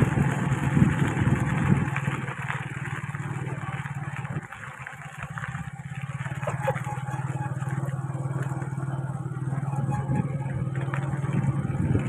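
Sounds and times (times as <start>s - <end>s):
small motorbike engine: 0.0s - 12.0s.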